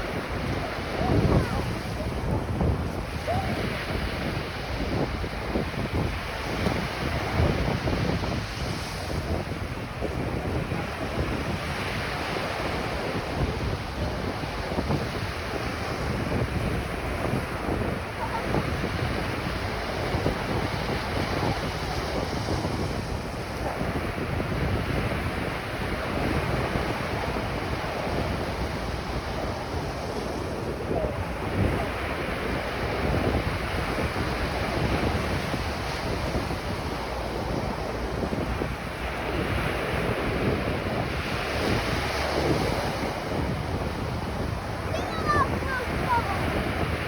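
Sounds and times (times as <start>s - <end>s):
ocean surf washing onto beach: 0.0s - 47.0s
wind buffeting microphone: 0.0s - 47.0s.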